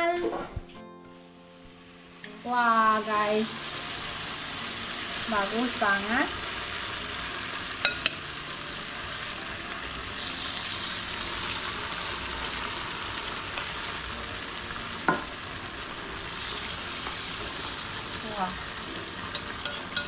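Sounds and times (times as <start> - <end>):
batter sizzling in hot oil: 1.8 - 20.0.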